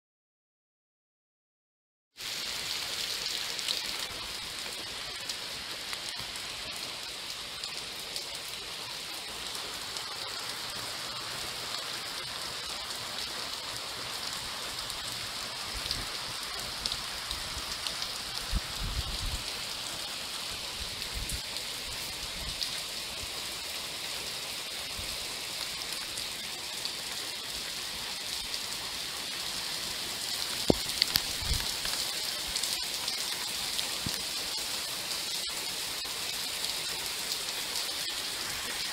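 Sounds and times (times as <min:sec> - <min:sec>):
heavy rain on concrete: 0:02.2 - 0:38.9.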